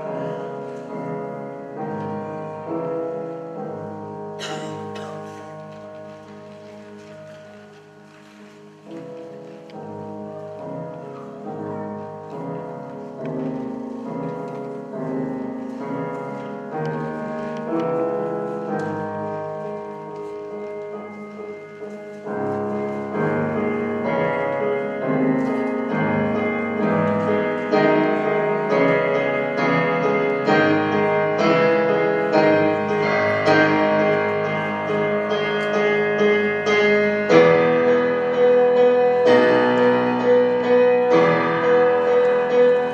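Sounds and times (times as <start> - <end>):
piano music: 0.0 - 42.9.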